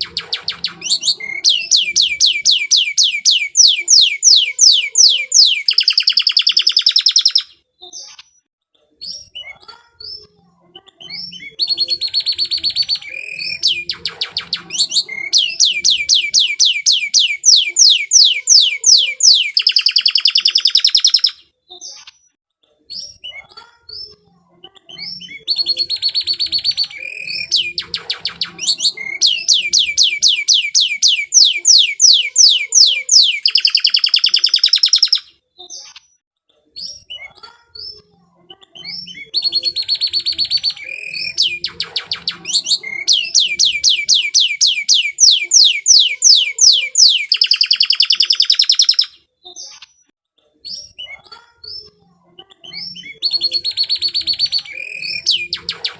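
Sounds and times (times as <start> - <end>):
canary singing trills: 0.0 - 8.4, 9.0 - 22.3, 22.9 - 36.2, 36.8 - 50.0, 50.7 - 55.9.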